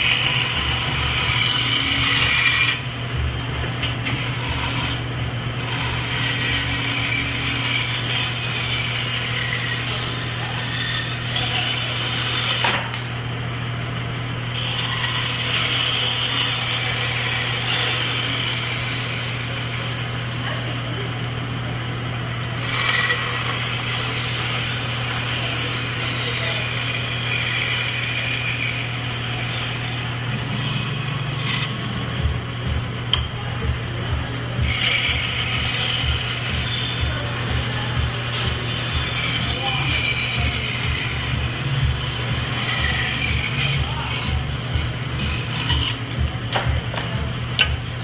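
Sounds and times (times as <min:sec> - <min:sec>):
saw blade rasping through wood: 0:00.0 - 0:02.9, 0:04.1 - 0:05.0, 0:05.6 - 0:12.8, 0:14.6 - 0:20.9, 0:22.6 - 0:32.2, 0:34.6 - 0:46.0
band saw motor hum: 0:00.0 - 0:48.0.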